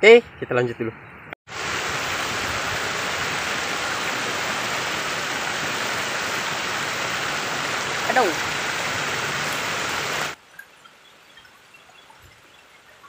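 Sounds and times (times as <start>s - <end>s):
stream water over stones: 1.5s - 13.0s.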